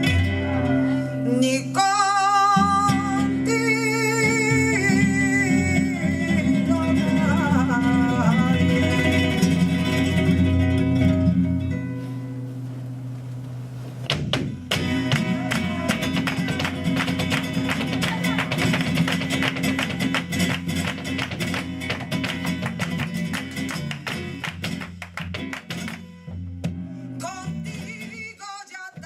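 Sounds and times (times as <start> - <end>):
flamenco guitar: 0.0 - 29.0.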